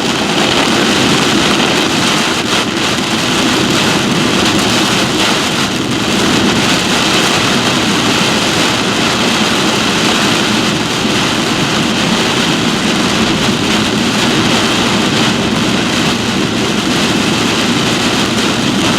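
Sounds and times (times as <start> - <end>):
heavy rain: 0.0 - 18.9
strong wind: 0.0 - 18.9.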